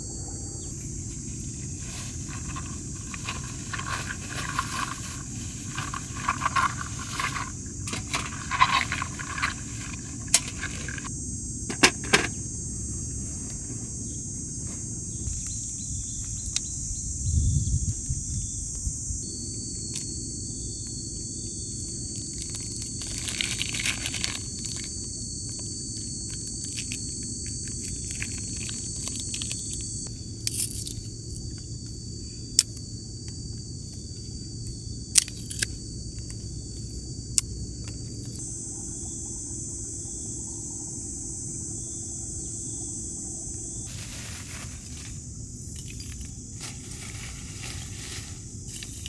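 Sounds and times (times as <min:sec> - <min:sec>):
high insect drone: 0:00.0 - 0:49.0
low steady rumble: 0:00.0 - 0:49.0.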